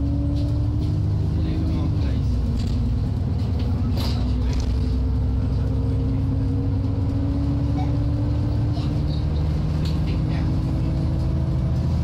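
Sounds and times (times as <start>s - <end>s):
bus engine accelerating: 0.0s - 12.0s
constant low rumble: 0.0s - 12.0s.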